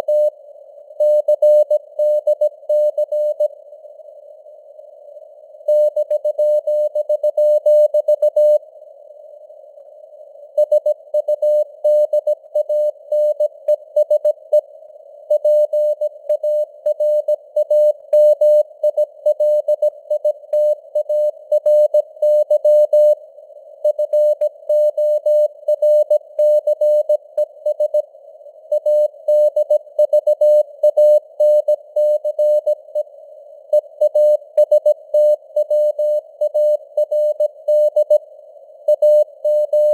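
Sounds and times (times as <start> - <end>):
faint radio noise hiss: 0.0 - 39.9.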